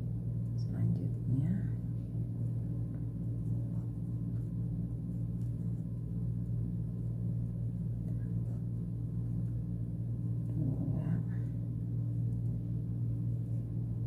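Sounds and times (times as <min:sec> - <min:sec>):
low hum with even tones: 0:00.0 - 0:14.0.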